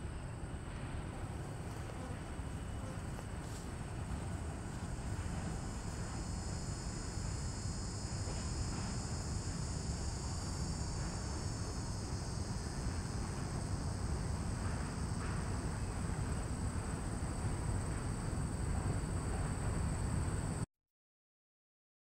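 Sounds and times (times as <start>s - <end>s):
insects buzzing: 0.0s - 20.6s
train rumbling on bridge: 0.0s - 20.6s.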